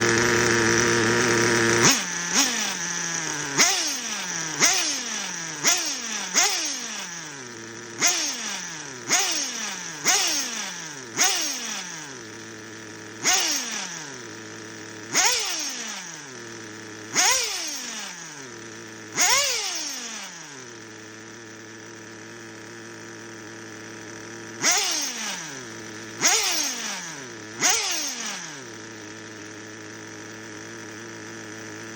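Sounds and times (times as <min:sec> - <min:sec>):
model car engine revving: 0:00.0 - 0:31.9.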